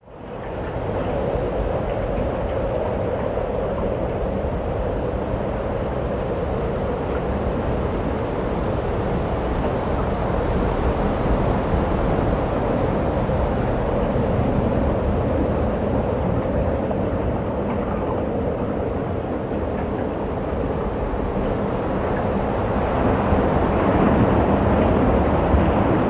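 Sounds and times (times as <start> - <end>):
strong wind buffeting microphone: 0.1 - 26.0.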